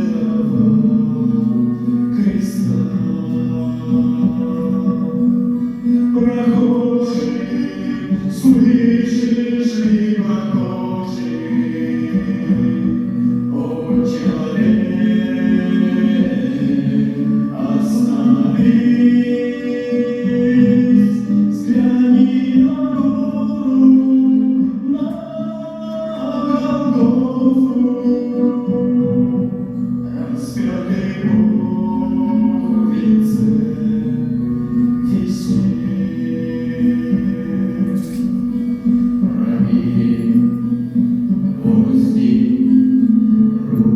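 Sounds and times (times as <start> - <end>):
musical accompaniment: 0.0 - 43.9
voices singing slow melody: 0.0 - 43.9.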